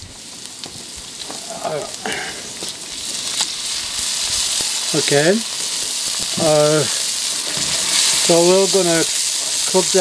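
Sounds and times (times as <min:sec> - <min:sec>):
meat and onion sizzling in pan: 0:00.0 - 0:10.0.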